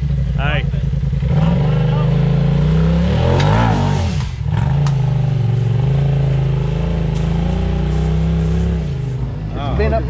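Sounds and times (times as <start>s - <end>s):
utv engine revving: 0.0s - 10.0s.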